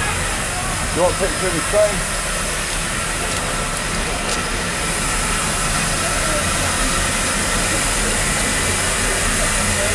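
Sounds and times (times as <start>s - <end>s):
steam locomotive hissing: 0.0s - 9.9s.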